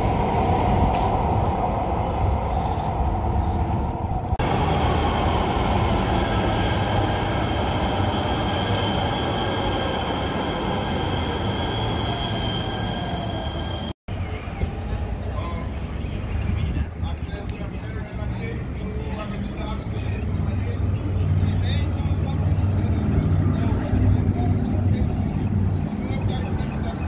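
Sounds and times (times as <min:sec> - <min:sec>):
light-rail train rumbling: 0:00.0 - 0:27.0.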